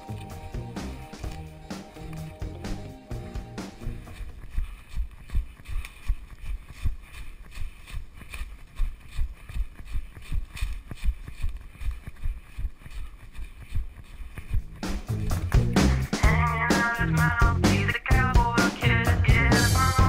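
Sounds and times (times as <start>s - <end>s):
running footsteps on leaves: 0.0s - 17.6s.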